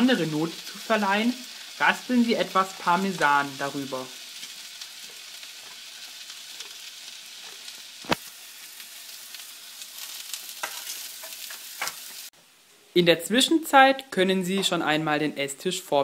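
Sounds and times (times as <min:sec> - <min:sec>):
potatoes sizzling in a pan: 0:00.0 - 0:13.7.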